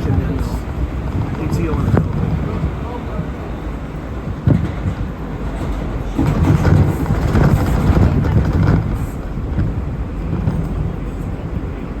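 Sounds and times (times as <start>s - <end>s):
subway car rumbling on track: 0.0s - 12.0s
wheels and car body rattling: 0.0s - 12.0s.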